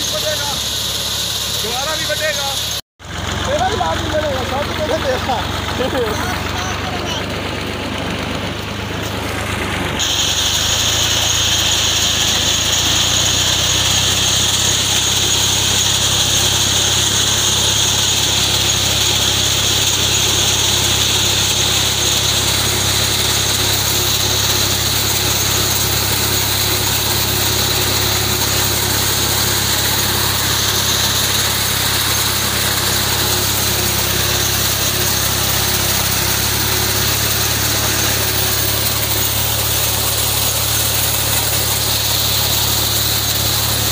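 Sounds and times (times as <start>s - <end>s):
cutter bar buzzing: 0.0s - 43.9s
tractor diesel engine running: 0.0s - 43.9s.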